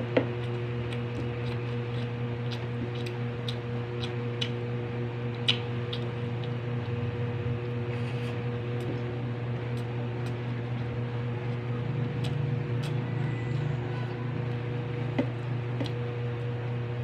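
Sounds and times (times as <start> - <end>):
low mechanical hum with tones: 0.0 - 17.0.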